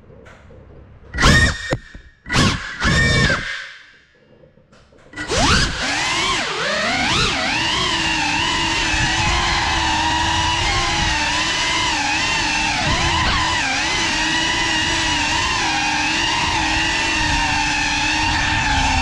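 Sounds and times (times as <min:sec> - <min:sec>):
drone propellers whining: 0:00.3 - 0:04.4, 0:05.1 - 0:19.0.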